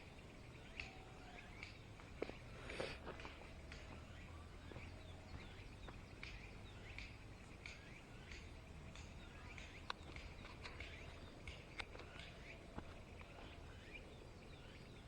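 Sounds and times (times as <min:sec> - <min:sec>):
faint birds chirping: 0:00.0 - 0:15.0
outdoor background noise: 0:00.0 - 0:15.0.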